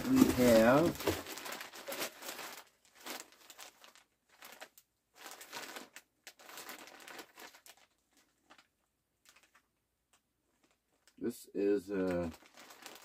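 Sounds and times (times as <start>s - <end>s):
plastic bag crinkling: 0.0s - 9.7s, 10.5s - 11.2s, 11.9s - 13.0s.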